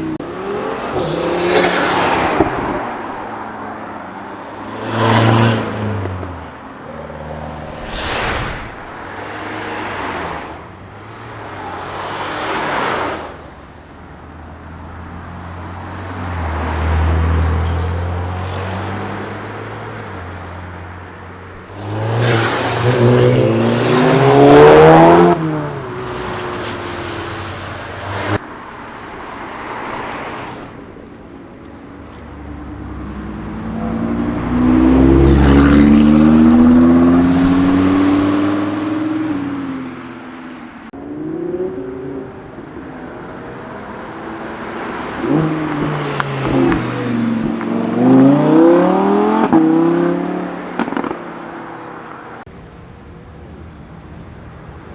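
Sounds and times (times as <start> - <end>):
cars accelerating past: 0.0 - 13.5, 15.4 - 20.6, 21.6 - 28.4, 32.5 - 52.5.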